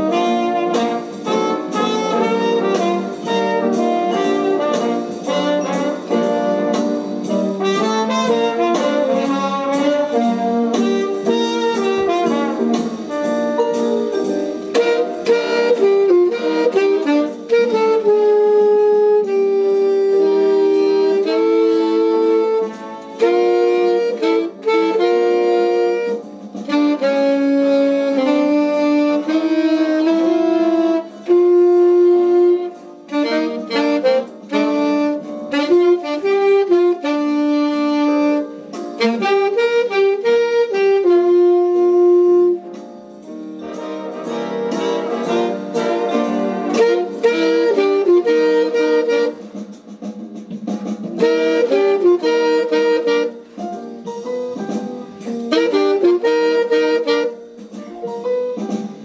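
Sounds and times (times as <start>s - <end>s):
saxophones playing held notes: 0.0s - 50.1s, 51.1s - 58.8s
busy jazz music: 0.0s - 59.0s.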